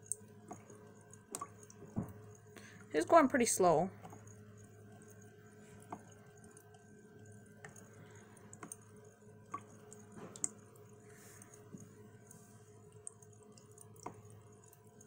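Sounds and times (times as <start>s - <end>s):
water trickling: 0.0s - 15.0s.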